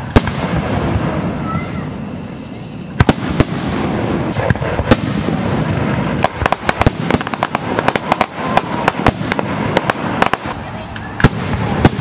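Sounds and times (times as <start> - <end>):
fireworks crackle: 0.0 - 12.0.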